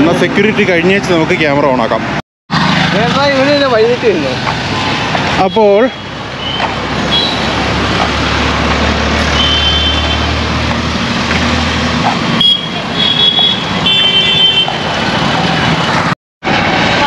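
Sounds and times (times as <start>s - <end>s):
market traffic din: 0.0s - 17.0s.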